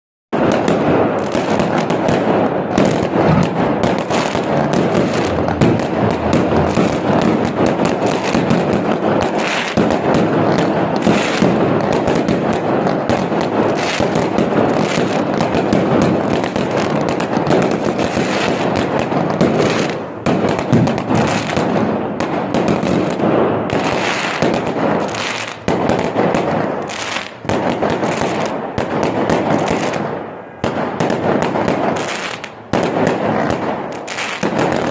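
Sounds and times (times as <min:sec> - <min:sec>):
fireworks bangs and crackles: 0:00.3 - 0:34.9.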